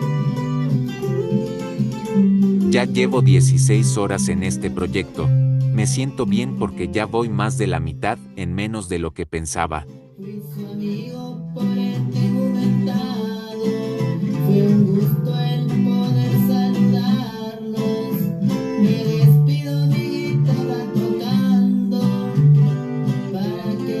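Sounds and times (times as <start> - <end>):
guitar-led song: 0.0 - 24.0.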